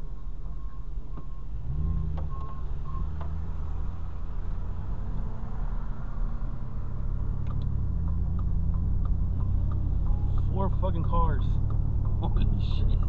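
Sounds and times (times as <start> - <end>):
car engine: 0.0 - 13.0
road noise inside car: 0.0 - 13.0.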